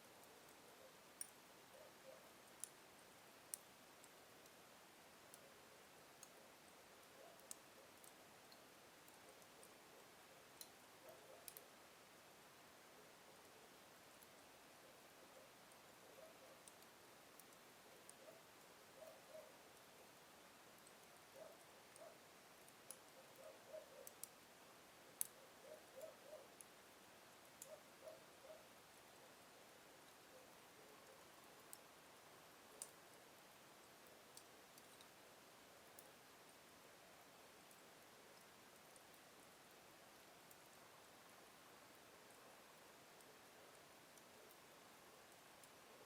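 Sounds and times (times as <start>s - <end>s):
wood crackling in fireplace: 0.0s - 46.0s.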